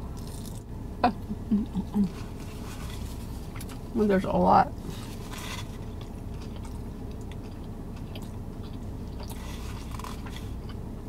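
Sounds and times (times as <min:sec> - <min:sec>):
person chewing food: 0:00.0 - 0:00.6, 0:01.6 - 0:04.0, 0:04.7 - 0:11.0
steady low hum: 0:00.0 - 0:11.0.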